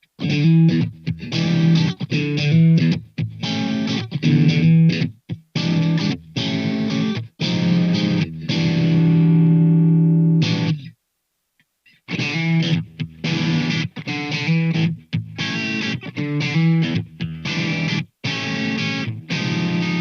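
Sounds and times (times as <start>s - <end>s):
overdriven electric guitar chords: 0.2s - 10.9s, 12.1s - 20.0s.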